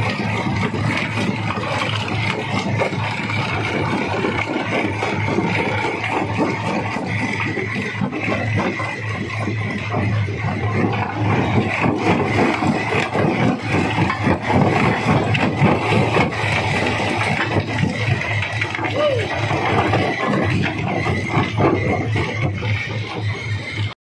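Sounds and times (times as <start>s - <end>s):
stone clattering and grinding: 0.0s - 23.9s
rock crusher drone: 0.0s - 24.0s.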